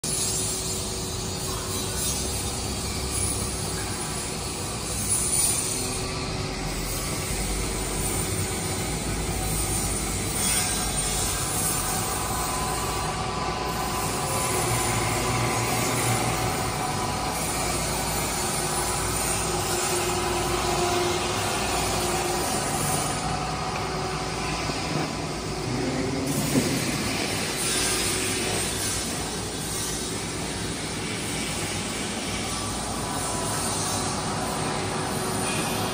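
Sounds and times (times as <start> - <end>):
faint motor whining: 0.1 - 35.9
machine mechanical whirr: 0.1 - 35.9.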